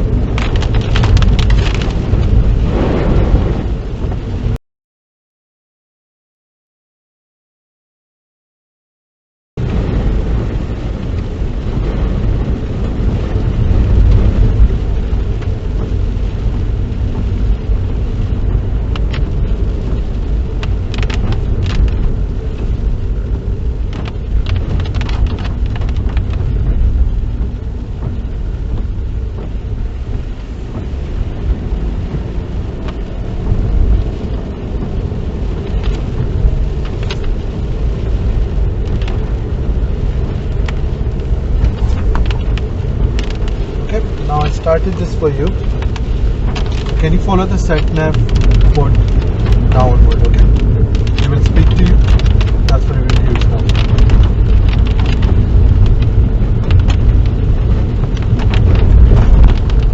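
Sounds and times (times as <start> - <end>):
car road noise in rain: 0.0 - 4.6, 9.6 - 59.9.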